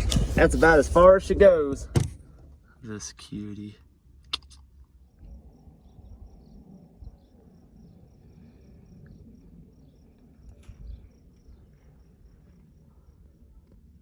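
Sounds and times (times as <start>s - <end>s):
low rumble: 0.0s - 2.9s, 5.0s - 14.0s
crickets chirping: 0.0s - 14.0s.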